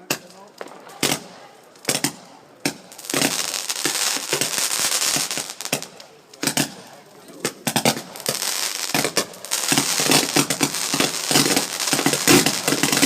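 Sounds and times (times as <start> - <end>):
firework bangs: 0.0 - 13.0
firework crackling: 0.0 - 13.0.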